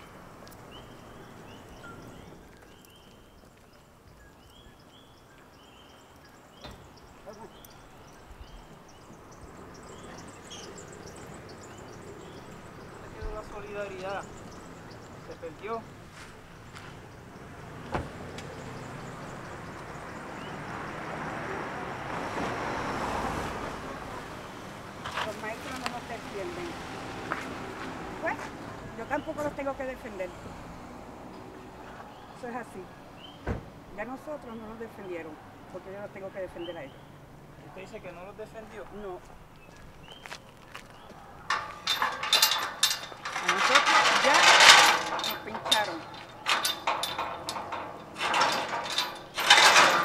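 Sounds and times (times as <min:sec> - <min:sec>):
car passing: 0:05.2 - 0:50.0.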